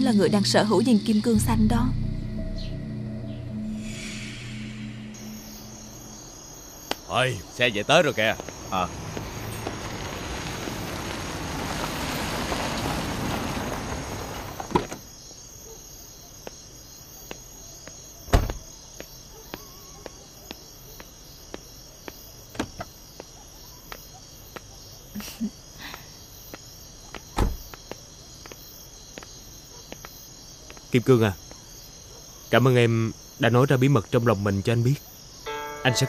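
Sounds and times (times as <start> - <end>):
crickets chirping: 0.0 - 36.0.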